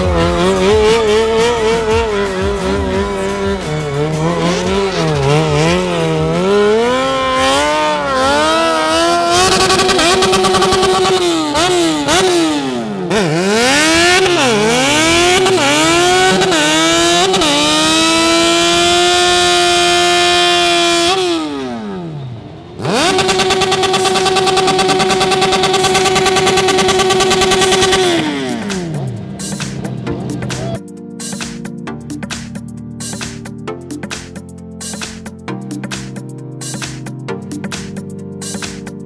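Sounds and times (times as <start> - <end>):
motorcycle engine revving: 0.0 - 31.4.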